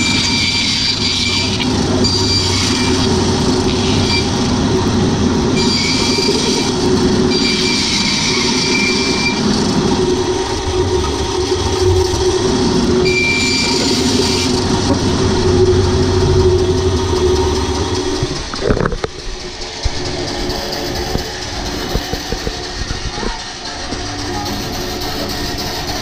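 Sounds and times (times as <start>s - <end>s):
band saw cutting: 0.0s - 26.0s
high saw blade whine: 0.0s - 26.0s.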